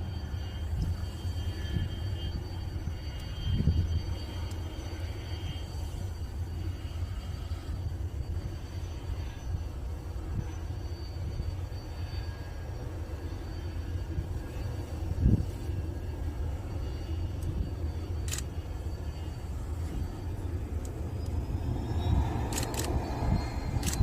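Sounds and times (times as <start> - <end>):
faint high whine: 0.0 - 24.0
jet aircraft rumble: 0.0 - 24.0.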